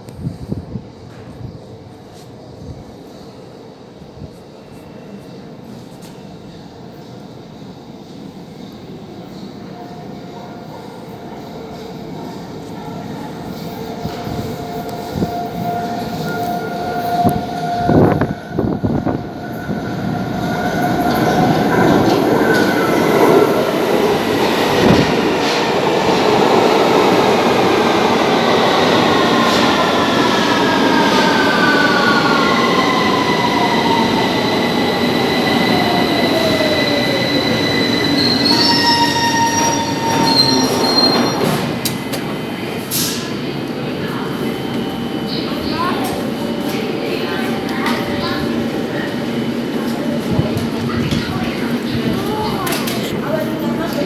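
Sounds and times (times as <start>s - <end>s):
underground train braking: 0.0s - 54.0s.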